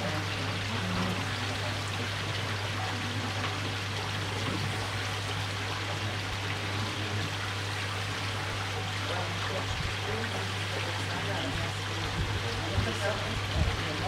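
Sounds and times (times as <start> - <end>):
trickling running water: 0.0 - 14.0.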